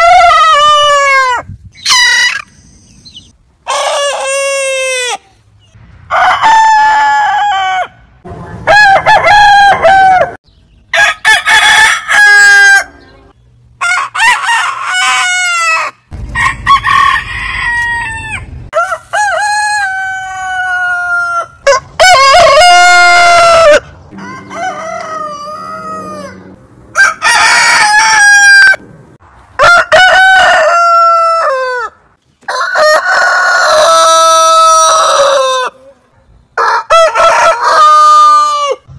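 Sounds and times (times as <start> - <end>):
roosters crowing: 0.0 - 5.4, 6.1 - 28.8, 29.5 - 36.0, 36.6 - 38.9.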